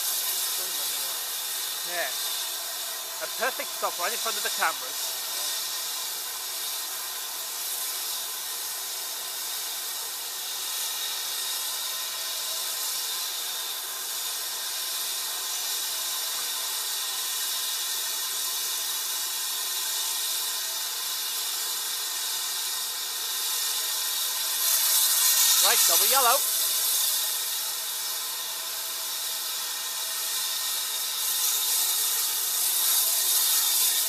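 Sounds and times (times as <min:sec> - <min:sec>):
steam locomotive hissing steam: 0:00.0 - 0:34.0.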